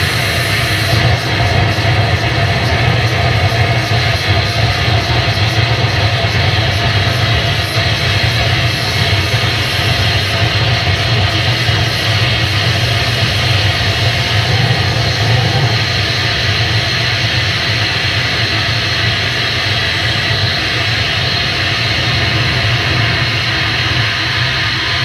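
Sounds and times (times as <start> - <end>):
electric guitar noise wash: 0.0 - 25.0
strong low hum: 0.0 - 25.0.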